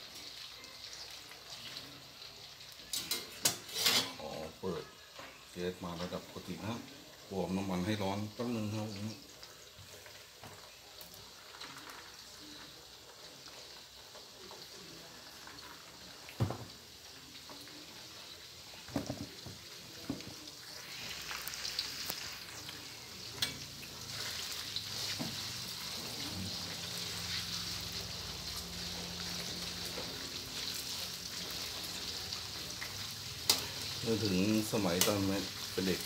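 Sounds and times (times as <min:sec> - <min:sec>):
fish sizzling in oil: 0:00.0 - 0:36.0.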